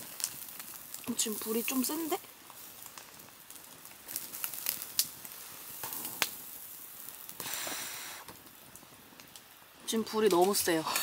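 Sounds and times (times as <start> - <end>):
charcoal fire crackling: 0.0 - 11.0.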